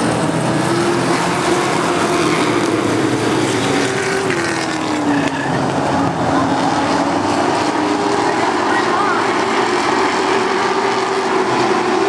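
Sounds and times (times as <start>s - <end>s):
race truck engines at speed: 0.0s - 12.0s
truck passing by: 0.0s - 12.0s.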